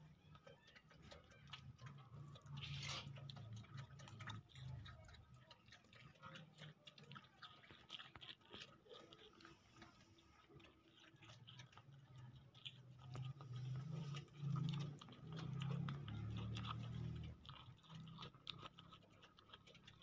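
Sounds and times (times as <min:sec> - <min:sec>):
goat chewing wetly: 0:00.0 - 0:20.0.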